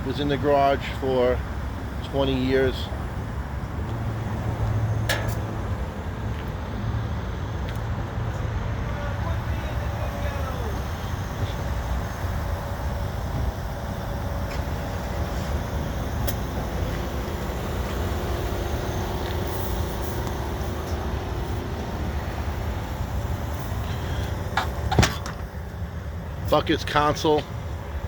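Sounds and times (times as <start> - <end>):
large vehicle engine rumble: 0.0 - 28.0.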